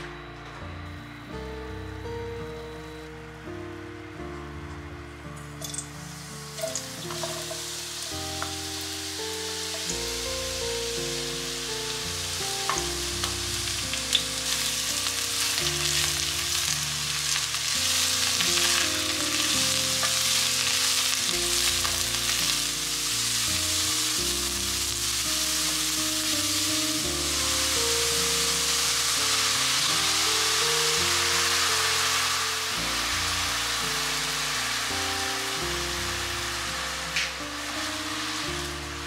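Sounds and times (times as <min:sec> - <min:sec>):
soft melodic background music: 0:00.0 - 0:39.0
mushrooms sizzling in a pot: 0:05.2 - 0:39.0.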